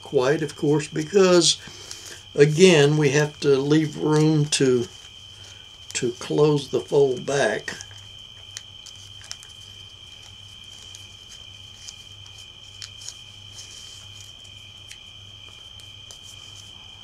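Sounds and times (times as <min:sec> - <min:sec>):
paper money crinkling: 0:00.3 - 0:17.0.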